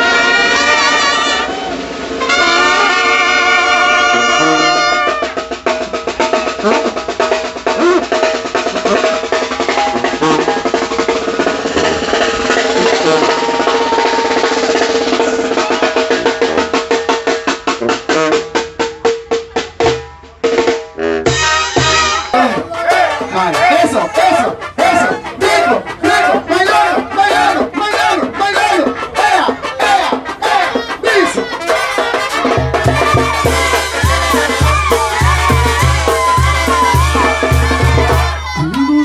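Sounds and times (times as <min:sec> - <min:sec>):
brass horns holding chords: 0:00.0 - 0:18.7, 0:21.0 - 0:38.8
snare and drum rolls: 0:00.8 - 0:38.8.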